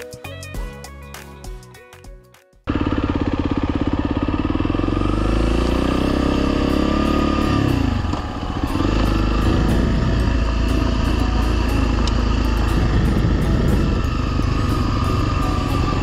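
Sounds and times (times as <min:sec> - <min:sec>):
motorcycle engine running: 0:02.7 - 0:16.0.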